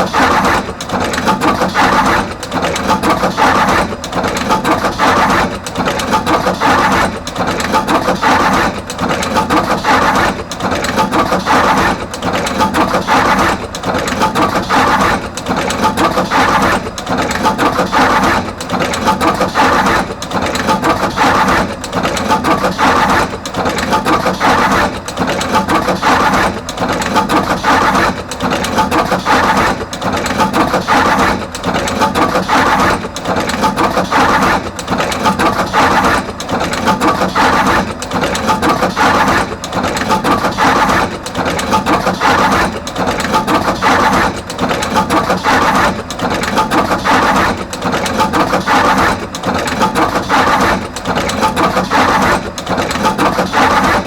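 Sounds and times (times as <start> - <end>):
crimping machine rattling: 0.0 - 54.0.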